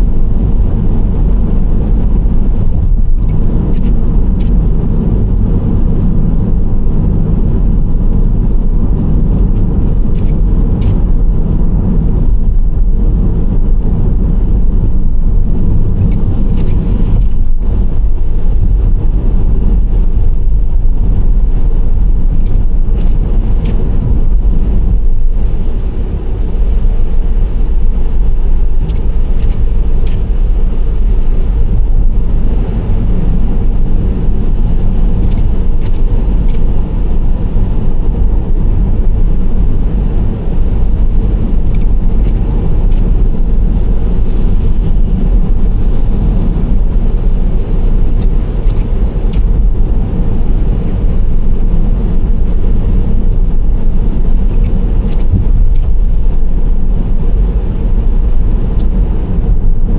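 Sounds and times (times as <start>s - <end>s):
car engine and tyre road noise: 0.0s - 59.9s.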